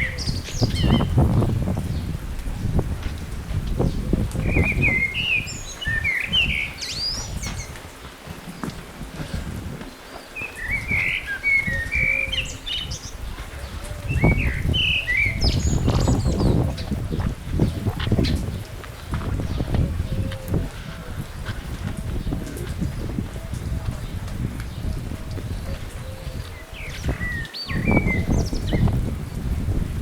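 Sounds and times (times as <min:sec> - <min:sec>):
small birds twittering: 0:00.0 - 0:02.7, 0:03.6 - 0:29.5
low rustling rumble: 0:00.0 - 0:30.0.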